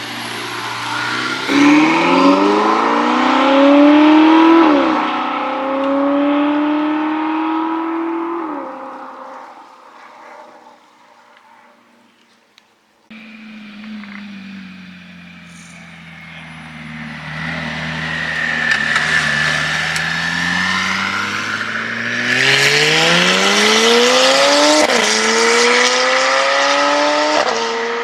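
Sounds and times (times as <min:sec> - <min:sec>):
car engine accelerating past: 0:00.0 - 0:11.0, 0:13.1 - 0:28.0.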